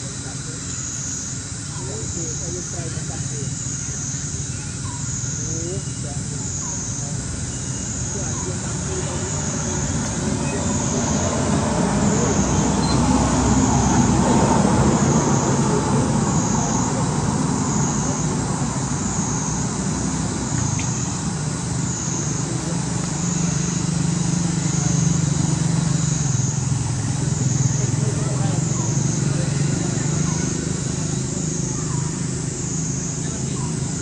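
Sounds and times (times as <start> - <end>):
high insect buzz: 0.0 - 34.0
low vehicle-like rumble: 0.0 - 34.0.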